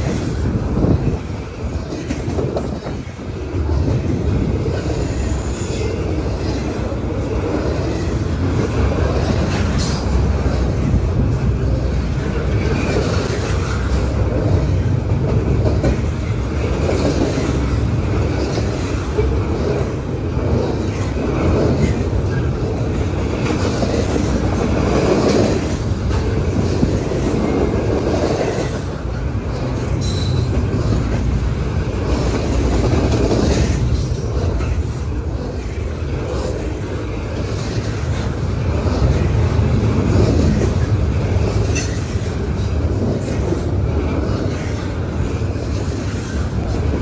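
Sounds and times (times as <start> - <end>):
freight train wheels rumbling on rail: 0.0 - 47.0.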